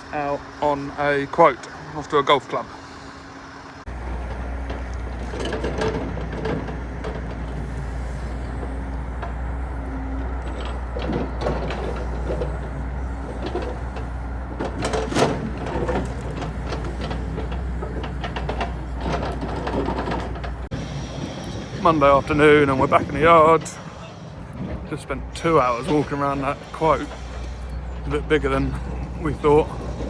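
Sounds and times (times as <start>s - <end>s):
engine humming: 0.0s - 30.0s
knocks and rattles: 3.9s - 30.0s.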